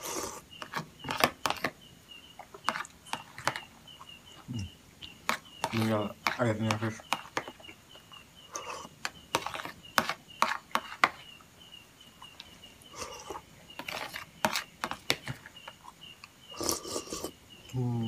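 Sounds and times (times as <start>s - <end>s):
spoon scraping plastic plate: 0.0s - 1.8s, 2.4s - 3.7s, 4.3s - 11.3s, 12.2s - 17.3s
faint high chirp: 0.2s - 18.0s.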